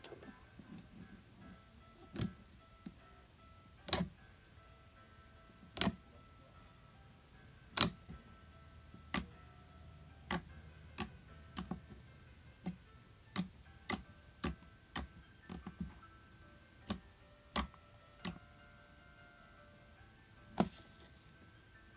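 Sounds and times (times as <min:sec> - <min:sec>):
soft background music: 0:00.0 - 0:21.9.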